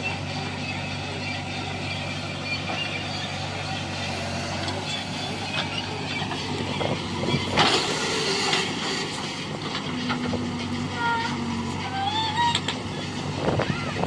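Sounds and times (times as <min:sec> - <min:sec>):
heavy diesel machinery running: 0:00.0 - 0:14.0.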